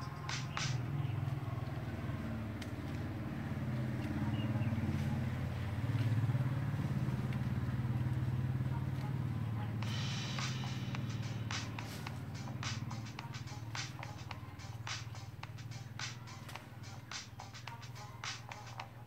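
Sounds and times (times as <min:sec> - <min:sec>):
motor engine droning: 0:00.0 - 0:19.0.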